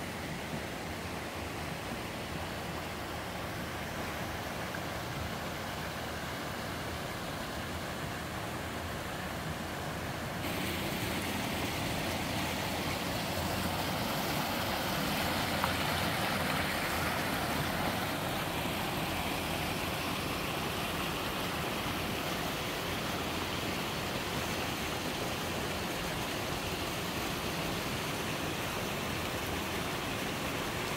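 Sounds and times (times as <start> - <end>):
stream rushing over rocks: 0.0 - 30.9.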